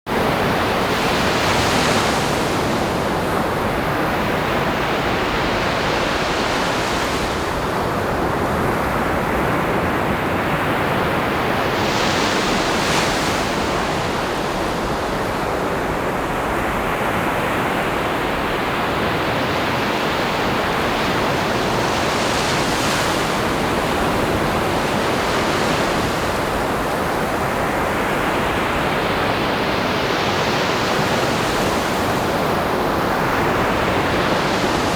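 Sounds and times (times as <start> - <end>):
ocean waves breaking: 0.2 - 34.9.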